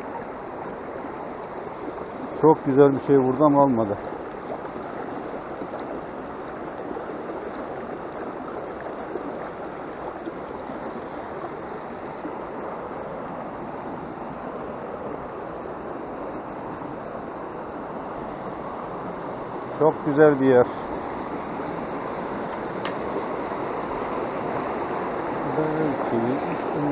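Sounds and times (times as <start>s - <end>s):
stream rushing over boulders: 0.0s - 26.9s.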